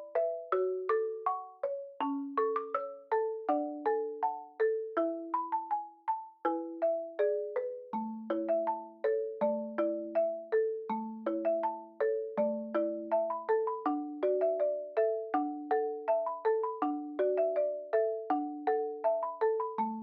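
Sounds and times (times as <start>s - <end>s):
bouncy mallet melody: 0.0s - 20.0s.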